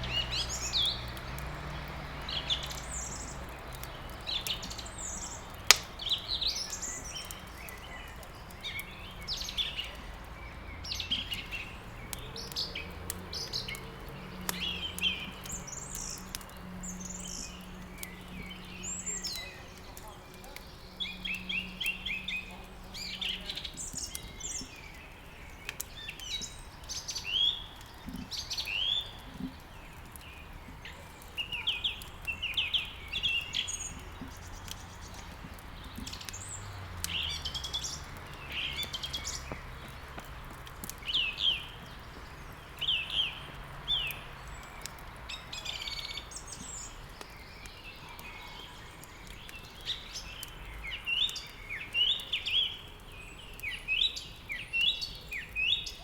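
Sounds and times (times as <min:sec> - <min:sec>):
songbirds chirping and singing: 0:00.0 - 0:56.0
faint clicks: 0:00.1 - 0:55.7.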